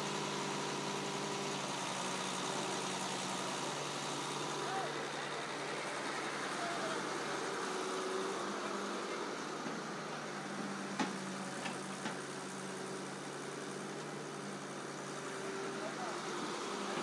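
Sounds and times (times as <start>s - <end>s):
heavy machinery engines running: 0.0s - 17.0s.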